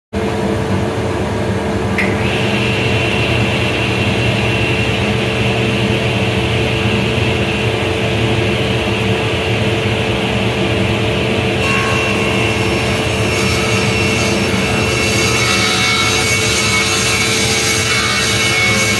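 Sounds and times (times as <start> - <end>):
table saw running: 2.0 - 18.9.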